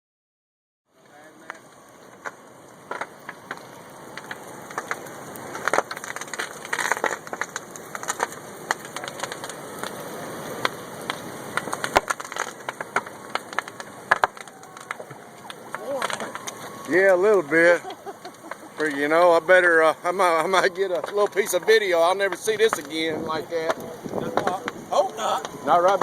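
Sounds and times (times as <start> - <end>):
fire cracking and popping: 0.9 - 26.0
fire rushing: 0.9 - 26.0.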